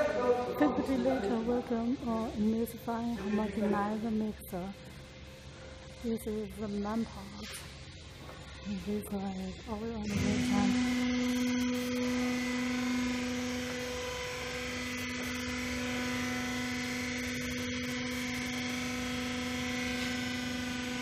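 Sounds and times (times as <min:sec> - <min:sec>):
electric motor hum: 0:00.0 - 0:21.0.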